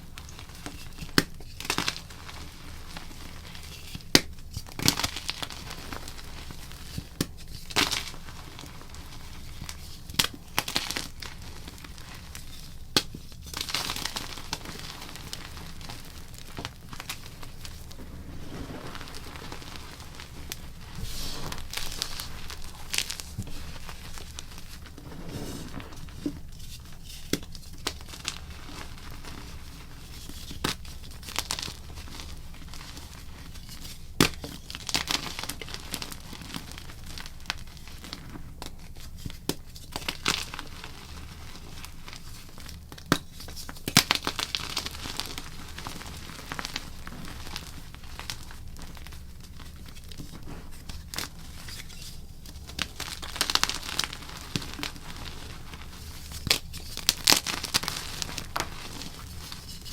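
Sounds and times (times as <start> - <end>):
chalk cracking and crunching: 0.0 - 59.9.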